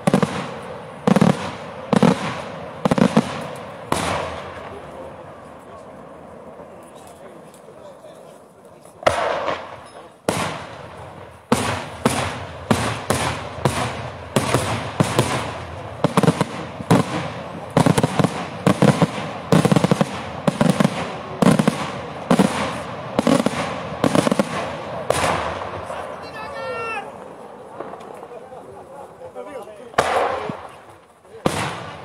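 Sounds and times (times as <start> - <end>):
fireworks bangs with echo: 0.0 - 8.0, 8.9 - 32.0.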